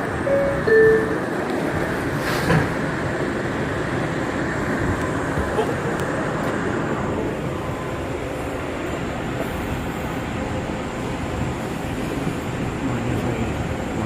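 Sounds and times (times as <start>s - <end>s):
subway car rumbling on rails: 0.0s - 14.0s.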